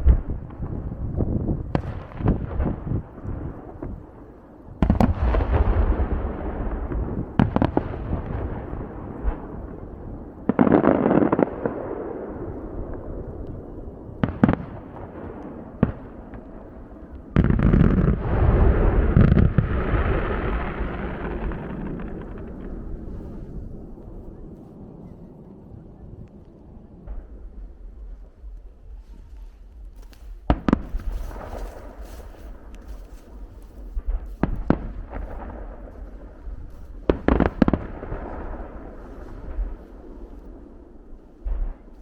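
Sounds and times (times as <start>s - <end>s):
fireworks bursting with echo: 0.0s - 42.0s.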